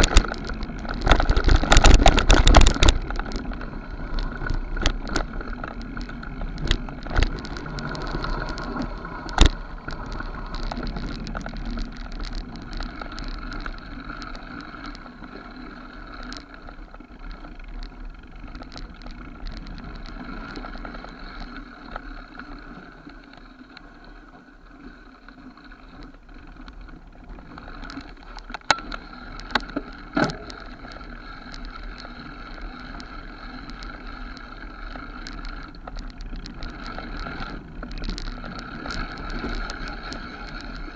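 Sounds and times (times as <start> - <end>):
bike rattling: 0.0 - 40.9
bike tyres rumbling on dirt: 0.0 - 40.9.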